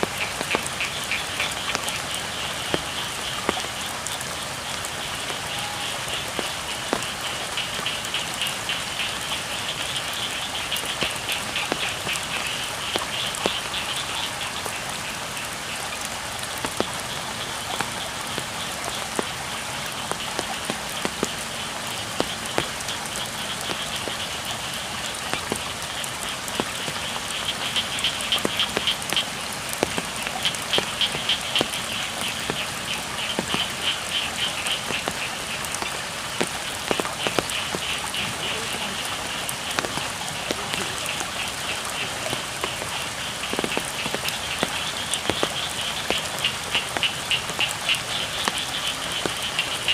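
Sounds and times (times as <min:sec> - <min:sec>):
frogs calling: 0:00.0 - 0:49.9
steady rain: 0:00.0 - 0:49.9.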